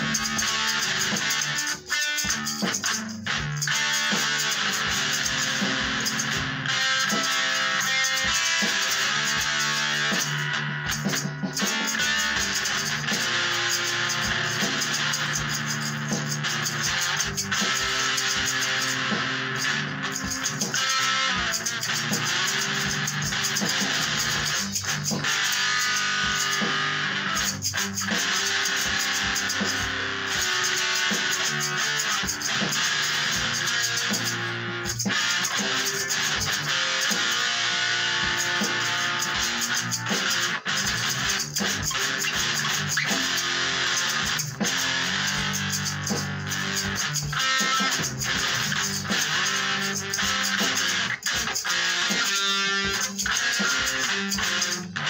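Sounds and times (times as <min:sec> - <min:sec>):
guitar-led background music: 0:00.0 - 0:55.0.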